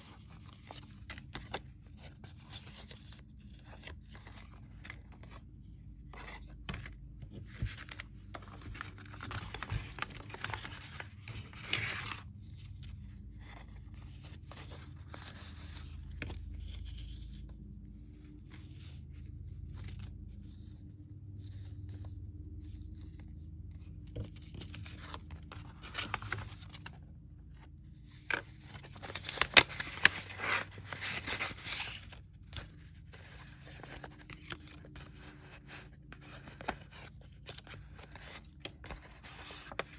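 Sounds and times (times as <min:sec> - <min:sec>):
faint low hum: 0:00.0 - 0:39.9
paper rustling and scraping: 0:00.0 - 0:39.9.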